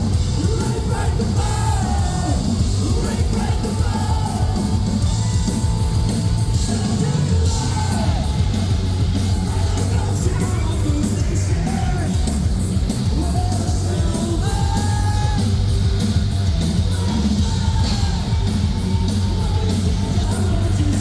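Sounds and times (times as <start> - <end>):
band vocals: 0.0 - 21.0
distorted guitars and bass: 0.0 - 21.0
heavy drums and cymbals: 0.0 - 21.0.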